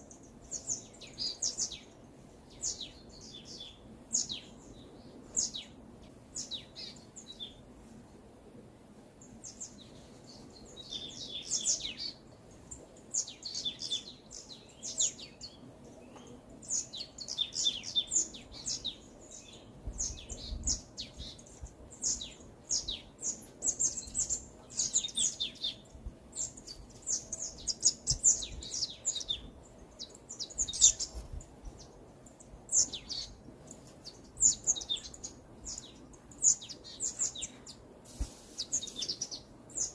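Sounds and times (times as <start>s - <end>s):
small birds chirping and singing: 0.0s - 8.1s, 9.2s - 39.9s.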